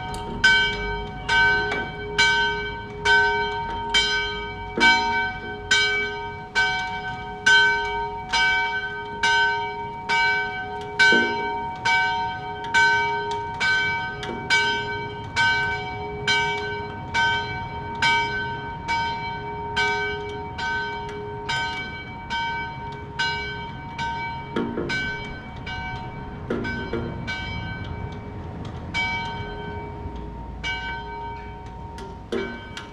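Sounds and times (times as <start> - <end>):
church bells ringing: 0.0 - 32.9
deep heavy bell stroke: 0.0 - 32.9.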